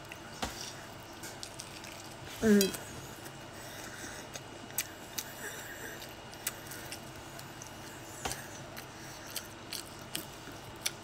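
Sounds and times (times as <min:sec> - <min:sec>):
chewing crunches: 0:00.0 - 0:11.0.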